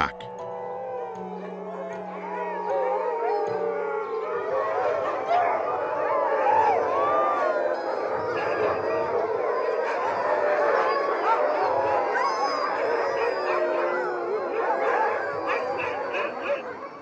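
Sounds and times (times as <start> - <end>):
huskies howling together: 0.5 - 17.0.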